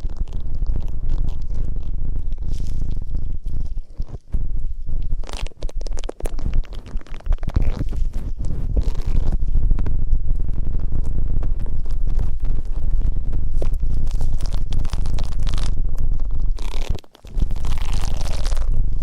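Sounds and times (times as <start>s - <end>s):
fine crackling: 0.0s - 19.0s
heavy low rumble: 0.0s - 19.0s
rubbing and scratching on microphone: 0.0s - 19.0s.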